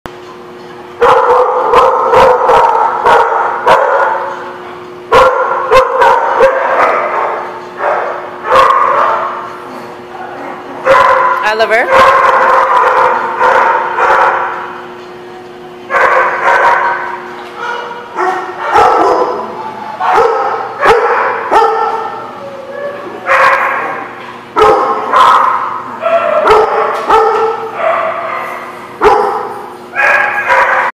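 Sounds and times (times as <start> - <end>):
dogs barking: 0.9 - 15.2, 15.8 - 30.9.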